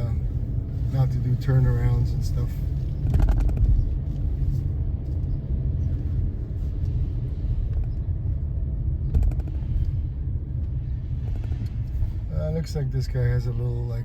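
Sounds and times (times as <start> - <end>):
car driving rumble from inside: 0.0 - 14.0.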